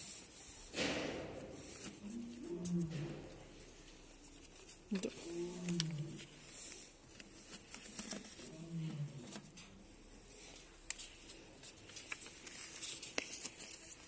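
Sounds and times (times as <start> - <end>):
paper rustling and shuffling: 0.0 - 14.0.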